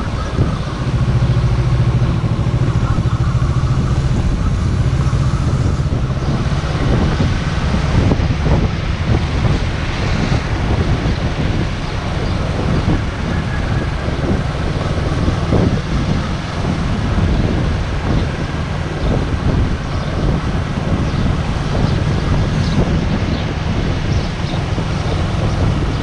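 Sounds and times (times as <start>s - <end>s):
motorcycle engine: 0.0s - 26.0s
wind buffeting microphone: 0.0s - 26.0s.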